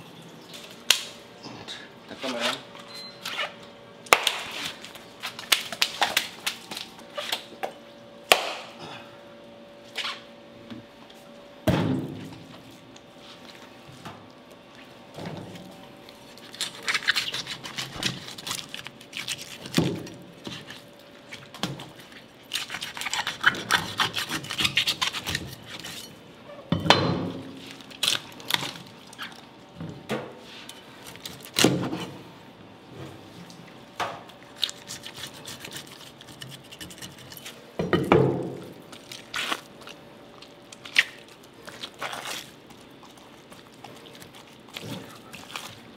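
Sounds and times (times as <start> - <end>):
knife scraping and wet crackling: 2.1 - 8.8, 9.9 - 10.3, 12.0 - 29.8, 30.4 - 32.3, 32.9 - 45.9.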